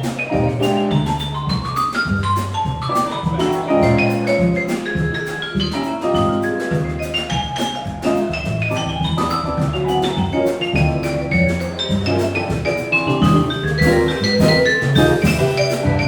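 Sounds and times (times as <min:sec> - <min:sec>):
bass: 0:00.0 - 0:16.0
drums: 0:00.0 - 0:16.0
jazz solo with quick runs: 0:00.0 - 0:16.0.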